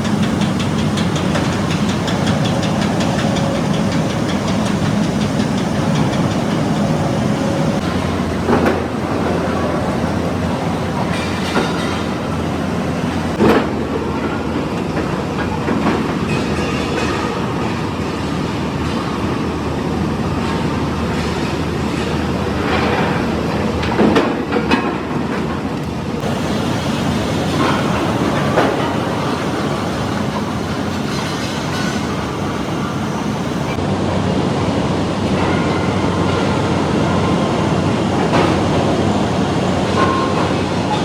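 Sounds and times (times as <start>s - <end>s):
machinery loud steady din: 0.0s - 24.9s, 26.1s - 41.0s.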